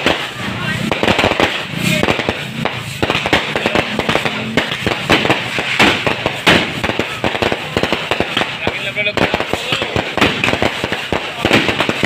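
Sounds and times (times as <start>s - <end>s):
fireworks and firecrackers popping: 0.0s - 12.0s.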